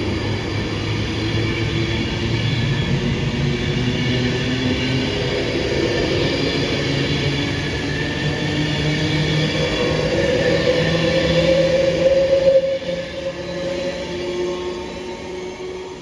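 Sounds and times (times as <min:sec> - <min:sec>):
train running close by: 0:00.0 - 0:16.0.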